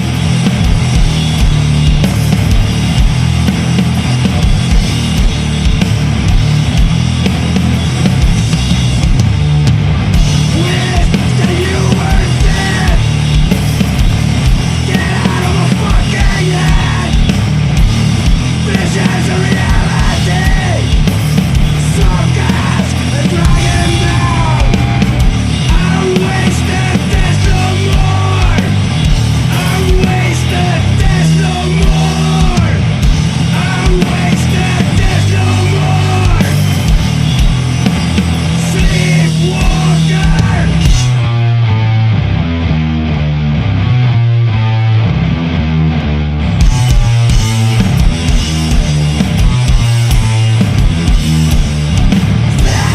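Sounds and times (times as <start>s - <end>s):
sludge metal music: 0.0s - 52.9s.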